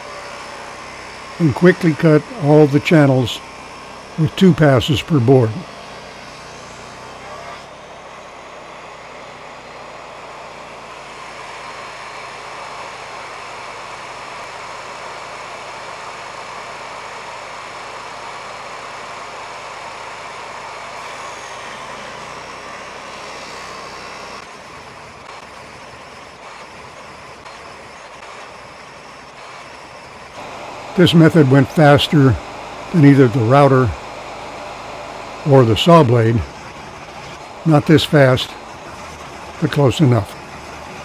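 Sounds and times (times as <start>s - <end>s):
table saw cutting a board: 0.0s - 41.0s.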